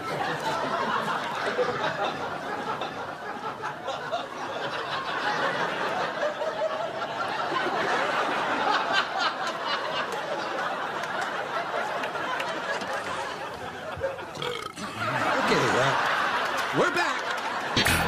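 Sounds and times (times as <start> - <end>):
group of people laughing: 0.0 - 18.0.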